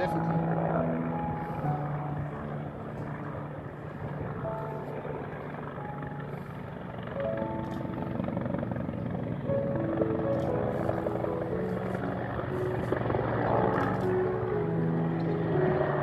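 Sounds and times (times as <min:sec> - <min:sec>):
helicopter rotor beating: 0:00.0 - 0:16.0
slow melody of single notes: 0:00.0 - 0:16.0.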